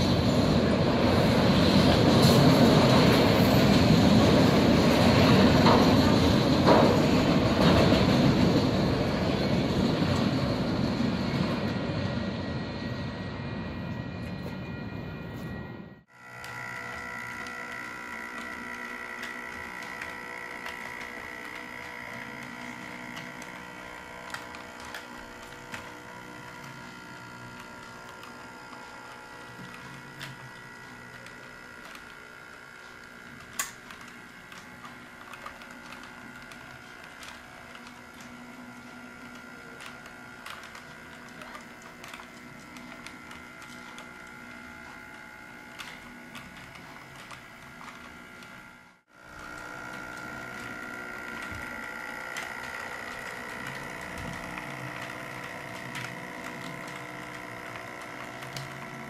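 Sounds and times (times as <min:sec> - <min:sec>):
wheels clicking over rail joints: 0:00.0 - 0:13.2, 0:16.1 - 0:59.0
electric motor whine: 0:00.0 - 0:59.0.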